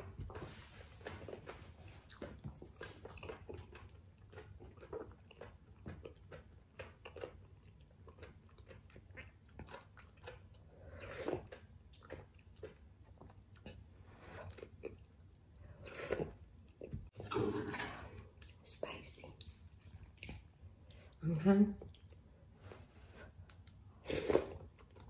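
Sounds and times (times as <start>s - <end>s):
chewing noodles: 0.0s - 21.2s.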